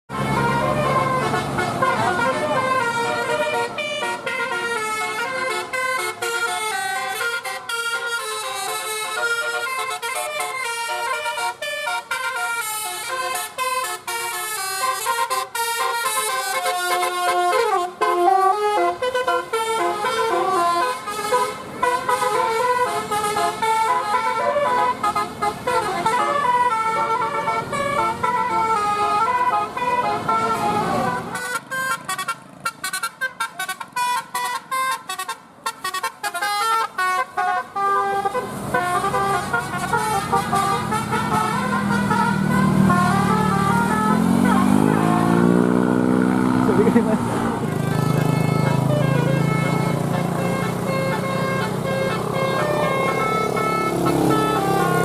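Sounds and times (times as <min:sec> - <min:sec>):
multi-tone bus horn playing a tune: 0:00.1 - 0:55.0.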